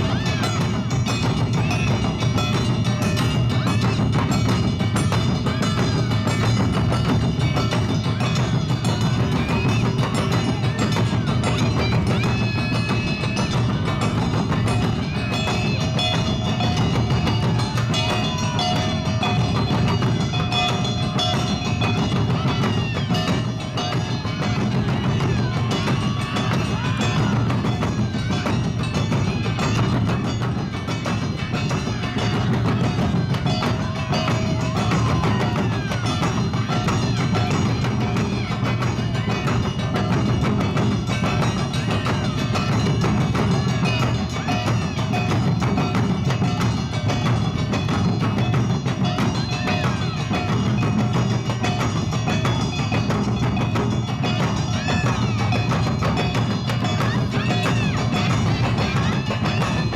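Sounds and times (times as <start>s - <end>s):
drums beating: 0.0s - 59.9s
ringing hand gong: 0.4s - 59.9s.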